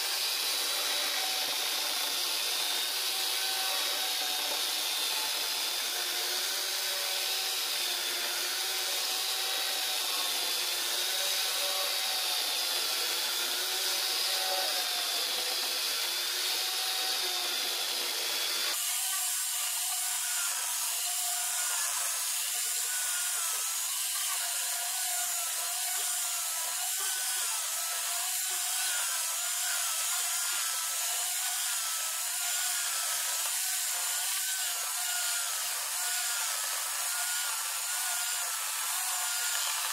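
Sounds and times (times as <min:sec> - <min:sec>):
mini chainsaw cutting log: 0:00.0 - 0:39.9.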